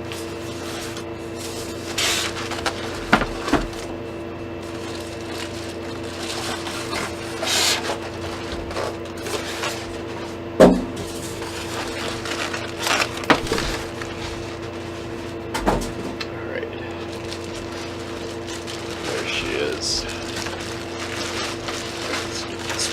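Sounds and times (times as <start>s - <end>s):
steady low hum: 0.0s - 22.9s
packing scraping and rustling: 0.1s - 3.9s, 4.6s - 10.4s, 11.0s - 15.4s, 16.9s - 22.9s.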